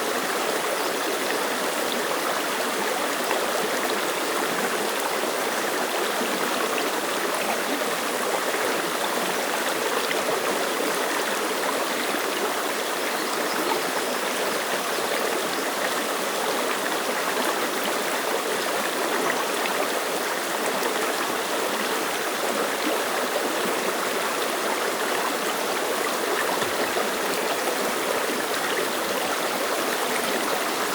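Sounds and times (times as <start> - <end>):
stream rushing over rocks: 0.0 - 30.9.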